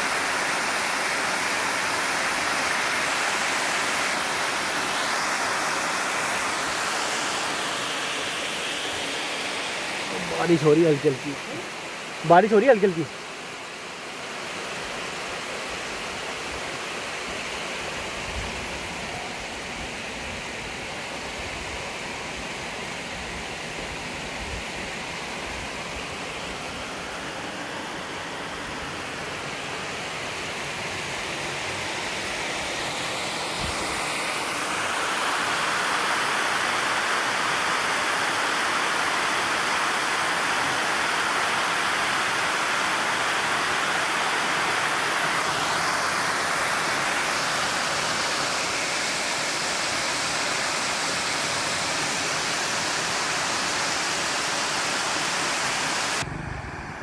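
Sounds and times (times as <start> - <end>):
water rushing over weir: 0.0 - 57.0.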